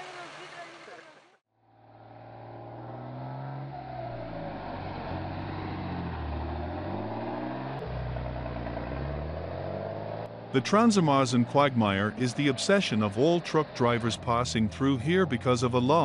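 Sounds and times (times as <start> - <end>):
diesel truck engine revving: 1.6 - 16.0.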